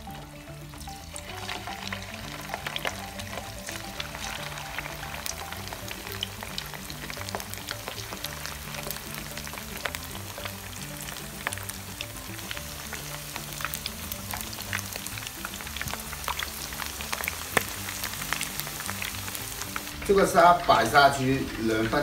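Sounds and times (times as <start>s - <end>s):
prawns deep-frying in oil: 0.0s - 22.0s.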